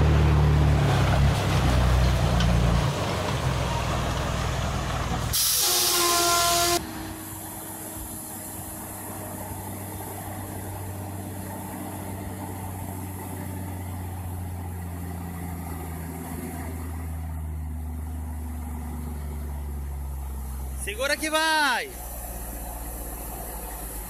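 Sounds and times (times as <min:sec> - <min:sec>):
heavy vehicle engine running: 0:00.0 - 0:24.0.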